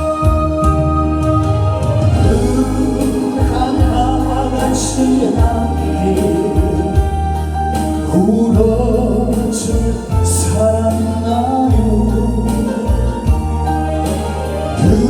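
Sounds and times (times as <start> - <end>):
keyboard and bass accompaniment: 0.0 - 15.0
wordless backing chorus: 0.0 - 15.0.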